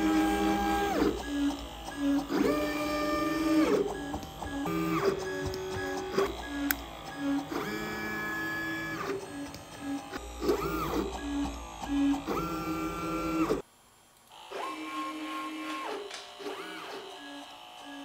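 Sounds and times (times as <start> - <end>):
stepper motors whining: 0.0 - 13.6, 14.4 - 18.0.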